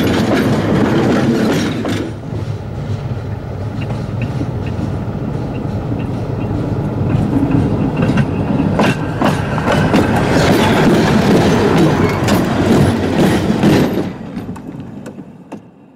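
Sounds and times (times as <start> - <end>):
wheels knocking on rail joint: 0.0 - 2.5, 3.7 - 15.8.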